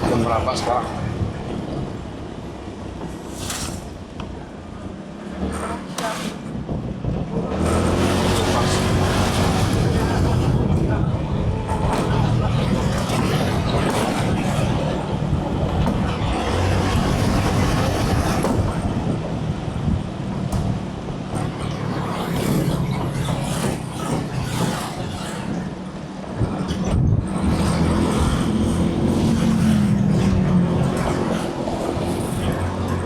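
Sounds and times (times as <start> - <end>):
road noise: 0.0 - 33.0
vehicle engine: 0.0 - 33.0.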